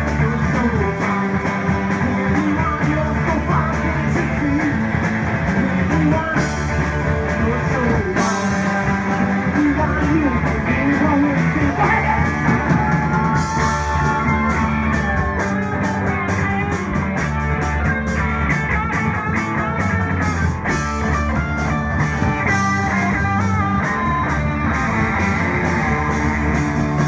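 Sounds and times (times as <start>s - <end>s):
electric guitar lead with bent notes: 0.0s - 27.0s
rock band playing: 0.0s - 27.0s.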